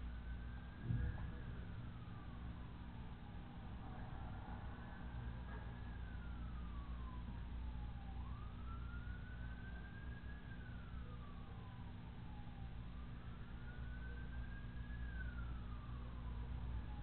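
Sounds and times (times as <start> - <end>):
faint wailing siren: 0.0 - 17.0
steady low hum: 0.0 - 17.0.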